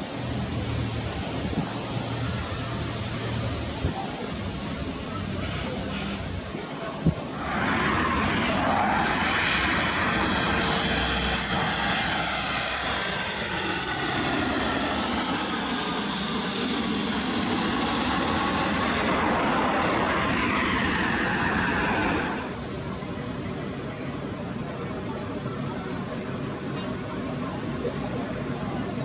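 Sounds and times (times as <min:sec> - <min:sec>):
jet airliner flying overhead: 0:00.0 - 0:29.0.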